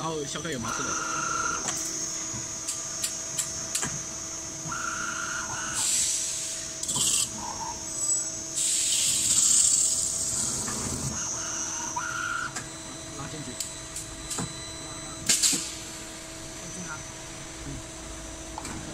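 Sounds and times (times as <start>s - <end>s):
metal spinning machine whine: 0.0s - 18.9s.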